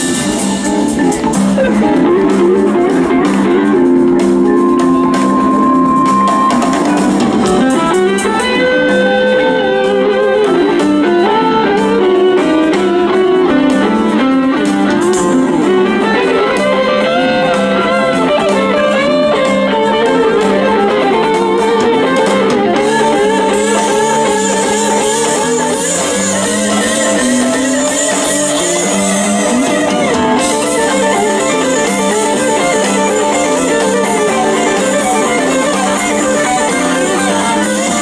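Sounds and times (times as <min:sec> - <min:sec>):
drums: 0:00.0 - 0:38.0
electric guitar lead lines: 0:00.0 - 0:38.0
rhythm guitar: 0:00.0 - 0:38.0.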